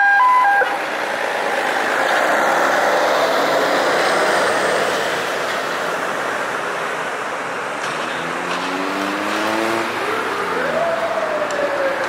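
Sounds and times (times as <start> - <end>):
street traffic: 0.0 - 12.0
bus engine accelerating: 0.5 - 12.0.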